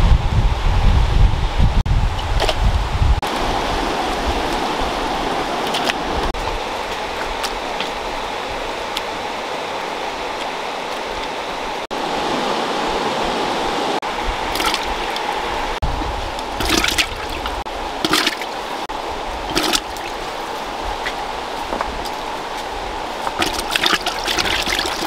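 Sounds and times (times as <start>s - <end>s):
water sloshing and splashing: 3.2s - 9.2s, 10.3s - 25.0s.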